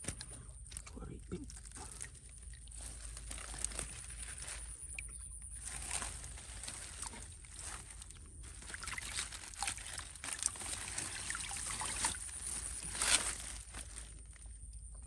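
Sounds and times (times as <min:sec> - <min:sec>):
shallow water trickling and splashing: 0:00.0 - 0:14.6.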